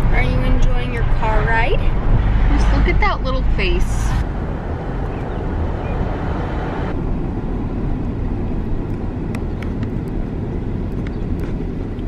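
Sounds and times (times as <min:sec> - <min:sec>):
road noise: 0:00.0 - 0:12.0
wind rush through car window: 0:00.0 - 0:12.0.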